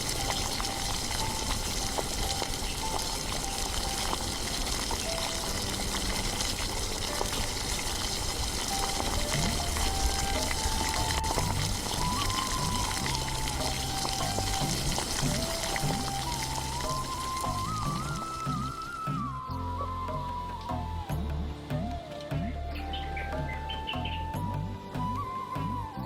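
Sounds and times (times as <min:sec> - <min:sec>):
cooking hiss: 0:00.0 - 0:25.8
soft background music: 0:00.0 - 0:26.0.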